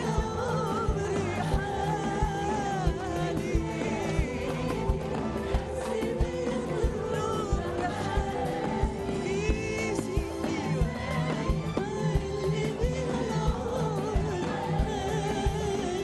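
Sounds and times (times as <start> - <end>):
band with steady drum beat: 0.0 - 16.0
woman singing pop song: 0.0 - 16.0.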